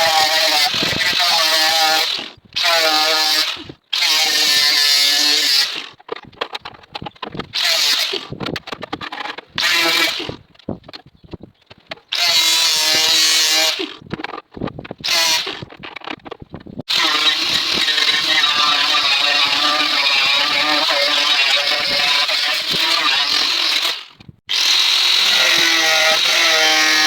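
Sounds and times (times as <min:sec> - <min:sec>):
grinder whining on metal: 0:00.0 - 0:14.3, 0:14.9 - 0:16.2, 0:16.8 - 0:27.0
tool scraping and clicking: 0:00.0 - 0:27.0.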